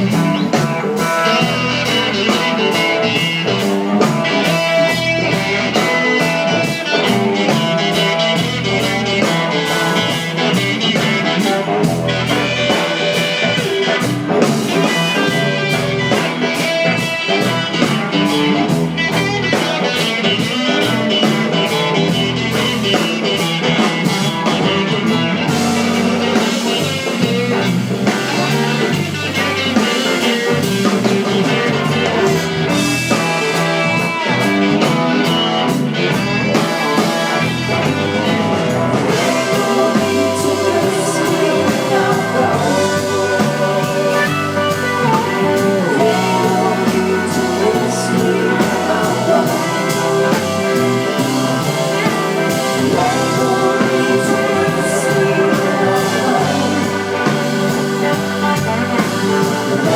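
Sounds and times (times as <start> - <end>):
blues-rock band playing: 0.0 - 59.9
electric guitar lines: 0.0 - 59.9.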